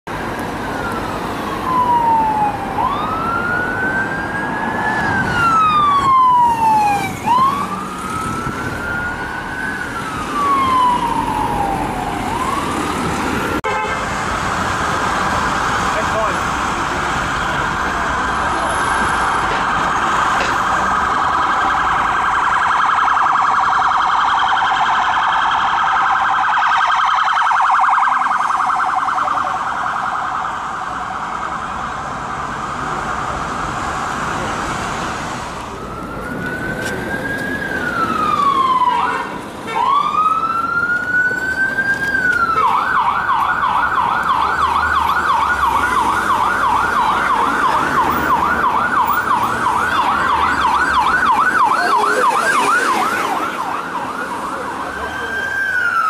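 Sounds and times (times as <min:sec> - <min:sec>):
police car siren: 0:00.1 - 0:56.0.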